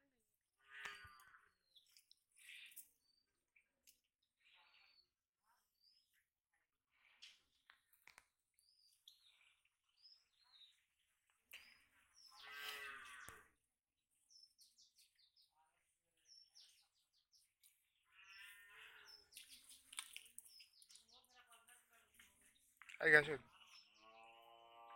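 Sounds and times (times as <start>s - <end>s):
faint bird chirps: 0.6s - 6.4s, 7.0s - 24.9s.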